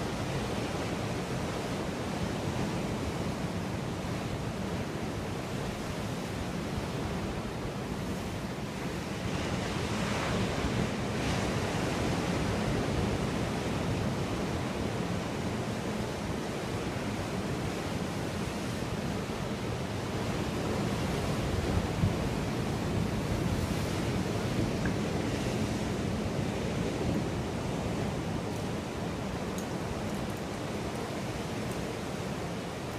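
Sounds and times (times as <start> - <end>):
ocean surf on rocky shore: 0.0 - 32.9
wind rumble on microphone: 0.0 - 32.9.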